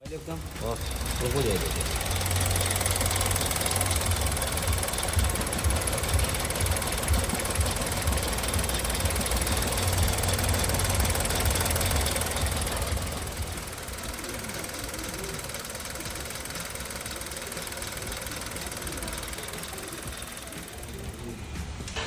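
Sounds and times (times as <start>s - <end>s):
car engine idling rough: 0.0s - 21.8s.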